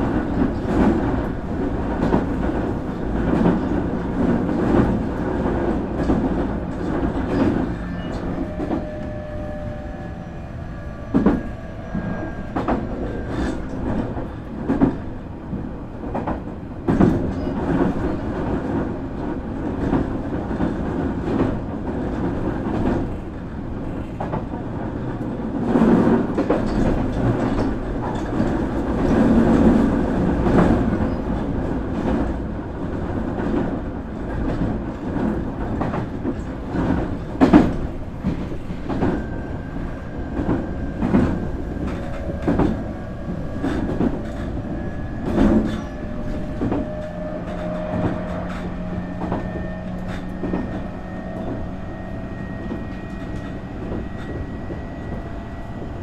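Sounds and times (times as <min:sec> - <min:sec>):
clacks over rail joints: 0:00.0 - 0:56.0
train wheels rumbling on rail: 0:00.0 - 0:56.0.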